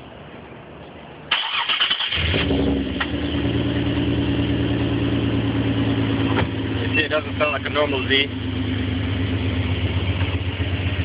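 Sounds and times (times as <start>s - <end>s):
car engine starting and idling: 1.3s - 11.0s.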